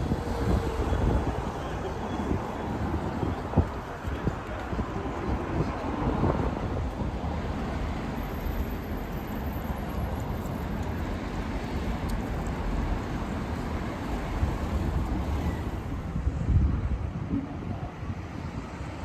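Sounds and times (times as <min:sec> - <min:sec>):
low city street rumble: 0:00.0 - 0:19.0.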